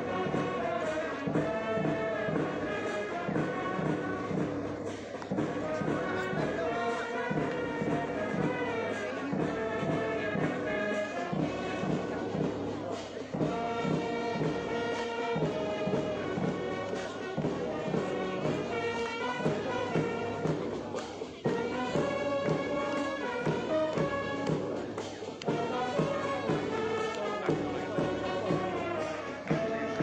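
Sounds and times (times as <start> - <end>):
brass band playing a march: 0.0 - 30.0.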